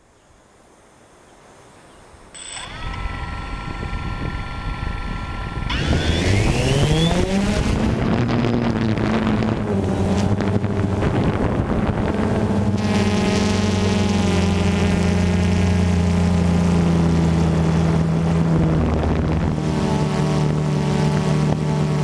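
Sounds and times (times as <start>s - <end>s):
drone propellers buzzing: 2.4s - 22.0s.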